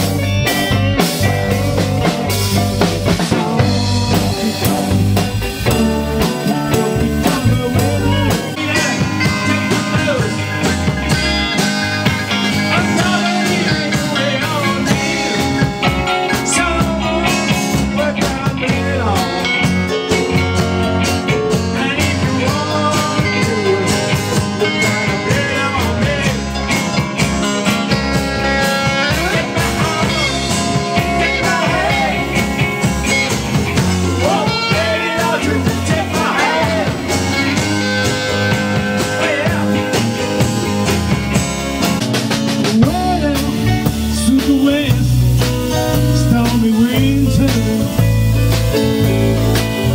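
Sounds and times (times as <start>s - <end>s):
rock band playing live: 0.0s - 49.9s
lead vocal singing: 1.5s - 20.1s, 21.5s - 27.9s, 28.5s - 41.0s, 42.5s - 48.2s.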